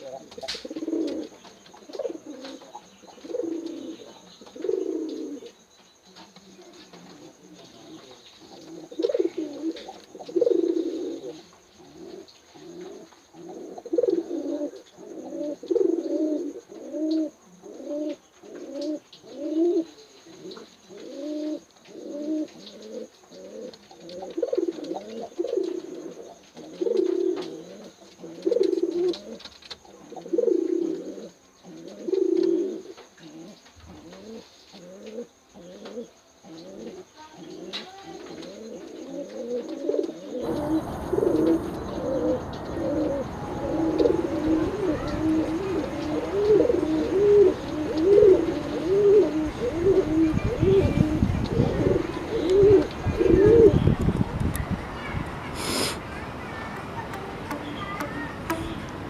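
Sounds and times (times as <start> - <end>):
doves cooing: 0.0 - 54.3.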